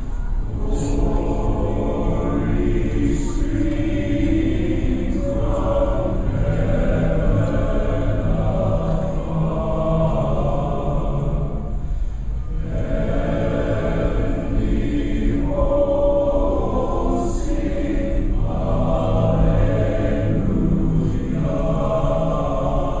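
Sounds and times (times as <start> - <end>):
men's chorus singing: 0.0 - 11.8, 12.4 - 23.0.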